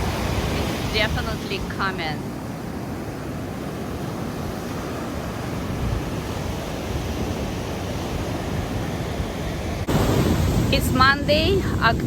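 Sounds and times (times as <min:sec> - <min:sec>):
heavy waves breaking: 0:00.0 - 0:12.0.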